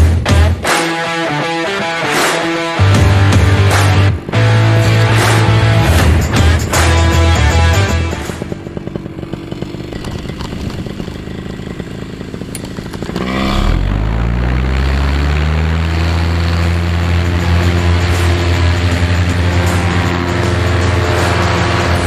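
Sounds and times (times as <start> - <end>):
paramotor engine revving: 1.8 - 22.0.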